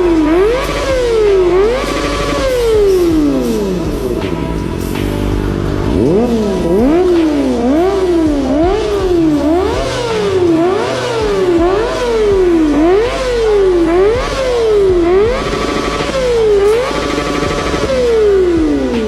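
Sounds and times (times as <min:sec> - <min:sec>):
background music: 0:00.0 - 0:19.0
motorcycle engine revving: 0:00.0 - 0:19.0.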